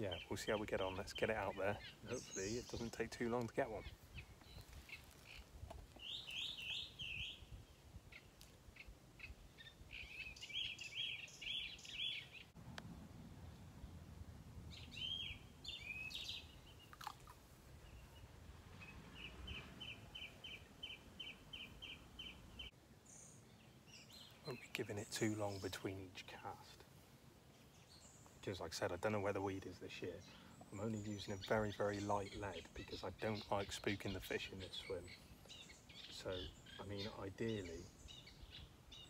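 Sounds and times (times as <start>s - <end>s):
songbirds singing: 0.0s - 12.6s, 13.2s - 39.0s
faint low outdoor rumble: 0.0s - 39.0s.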